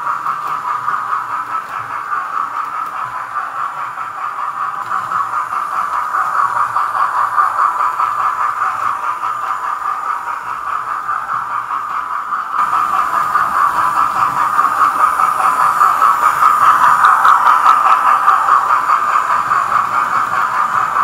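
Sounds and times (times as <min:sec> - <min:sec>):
model steam chuffing from speaker: 0:00.0 - 0:21.0.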